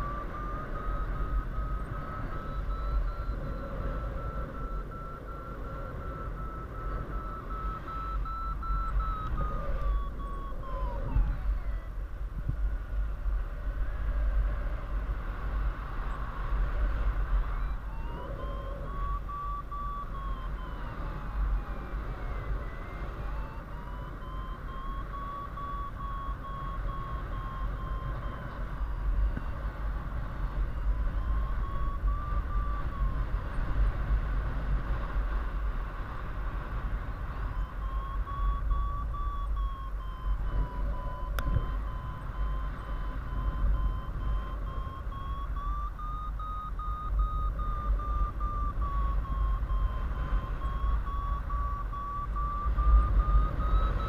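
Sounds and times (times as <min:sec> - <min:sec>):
variometer beeping: 0:00.0 - 0:54.0
wind rushing on microphone: 0:00.0 - 0:54.0.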